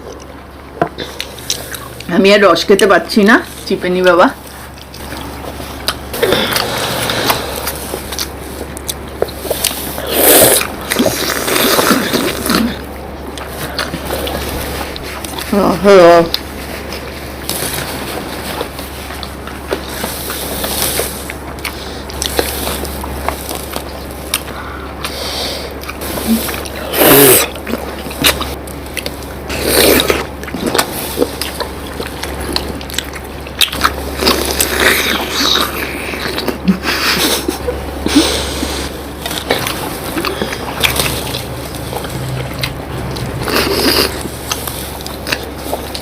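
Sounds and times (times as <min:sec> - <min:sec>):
chewing and squishing food: 0:00.0 - 0:46.0
low hum: 0:00.0 - 0:46.0
slurping: 0:04.5 - 0:15.5, 0:16.7 - 0:46.0.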